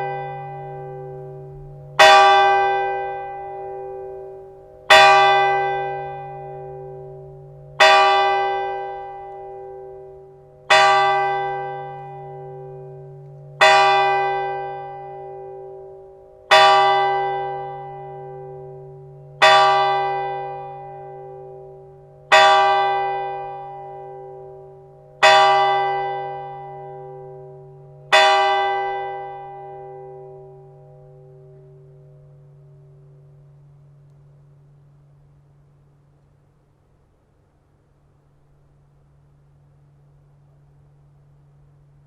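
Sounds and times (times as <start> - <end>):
church bell striking: 0.0 - 35.3.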